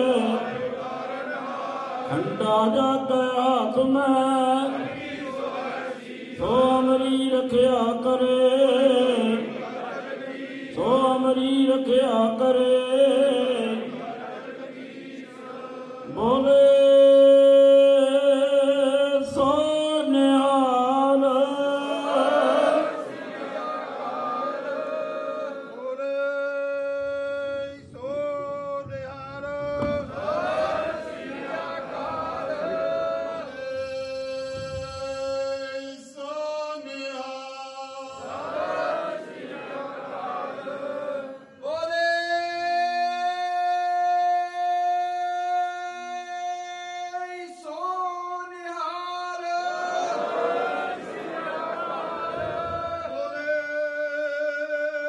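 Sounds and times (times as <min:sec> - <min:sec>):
men chanting: 0:00.0 - 0:41.6, 0:49.3 - 0:55.0.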